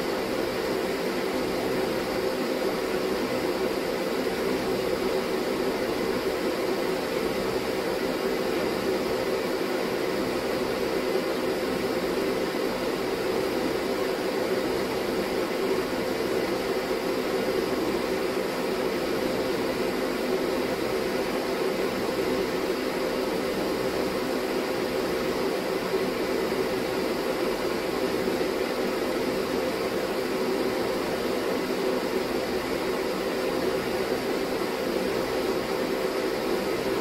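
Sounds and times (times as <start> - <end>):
fan-like machine humming: 0.0 - 37.0.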